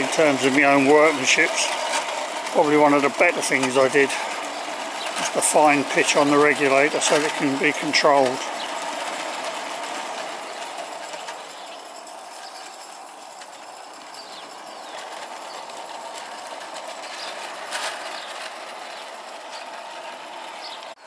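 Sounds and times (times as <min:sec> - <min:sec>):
birds chirping: 0:00.0 - 0:21.0
model steam locomotive running: 0:00.0 - 0:21.0.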